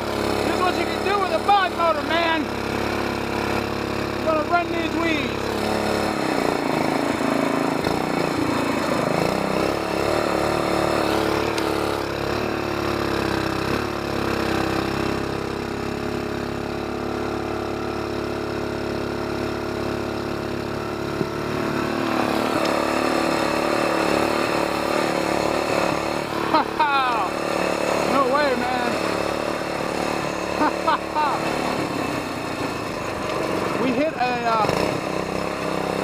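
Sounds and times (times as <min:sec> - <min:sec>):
boat motor running: 0:00.0 - 0:36.0.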